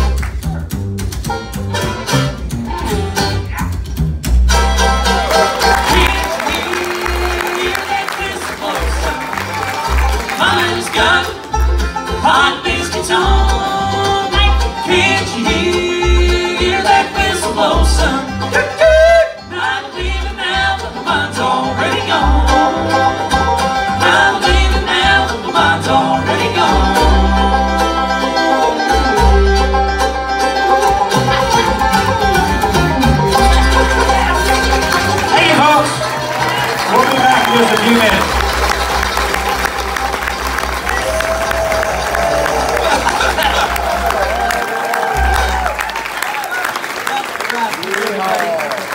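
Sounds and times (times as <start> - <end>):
acoustic guitars: 0.0 - 46.0
mandolin: 0.0 - 46.0
banjo: 0.0 - 46.2
upright bass: 0.0 - 46.4
fiddle: 4.5 - 45.9.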